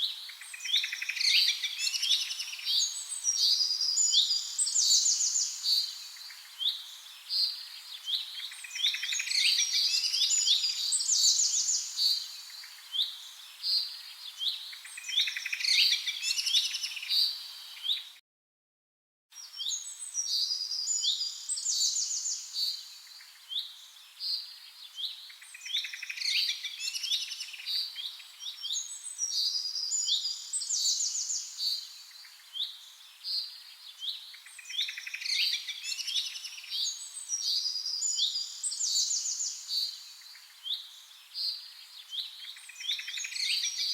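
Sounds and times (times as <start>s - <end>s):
songbirds chirping and singing: 0.0s - 18.2s, 19.4s - 43.9s.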